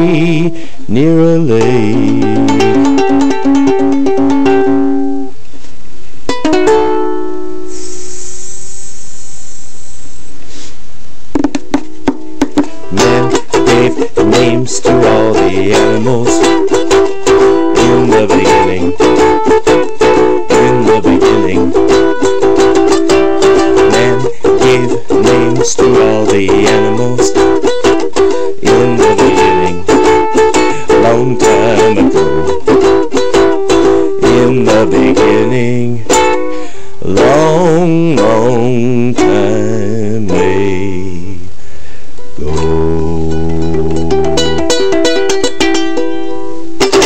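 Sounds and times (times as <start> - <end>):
ukulele strumming: 0.0 - 5.4, 6.2 - 8.2, 11.3 - 41.4, 42.2 - 47.0
steady hiss: 0.0 - 47.0.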